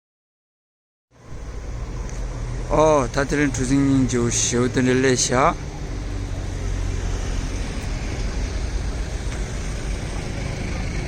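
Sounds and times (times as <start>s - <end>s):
boat engine droning: 1.2s - 11.0s.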